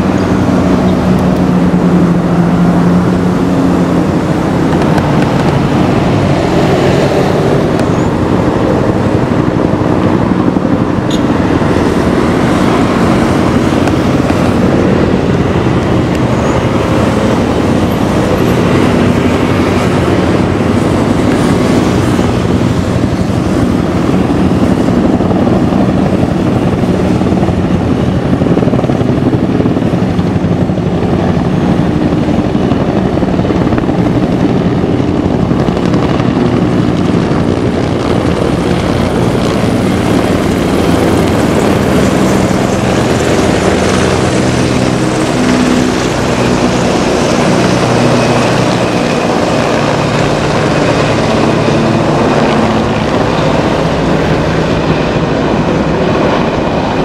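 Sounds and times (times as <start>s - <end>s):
helicopter rotors chopping: 0.0s - 57.0s.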